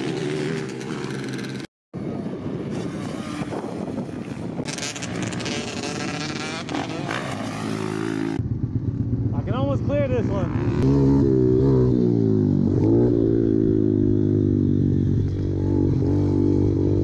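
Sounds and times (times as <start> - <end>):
dirt bike engine revving: 0.0 - 1.7, 2.7 - 9.6, 10.2 - 17.0.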